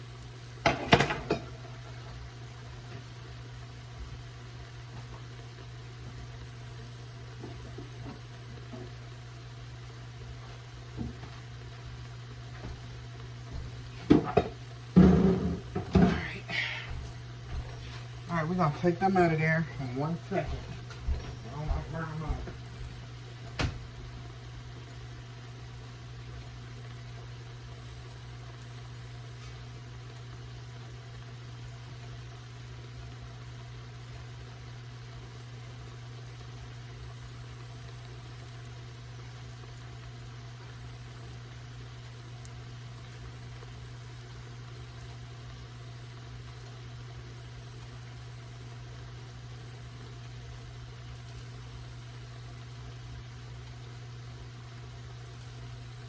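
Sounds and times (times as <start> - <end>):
mushrooms sizzling in hot oil: 0.0 - 56.0.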